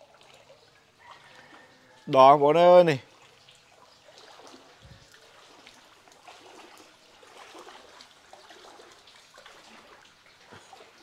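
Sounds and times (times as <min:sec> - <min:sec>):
flowing water trickling: 0:00.0 - 0:11.0.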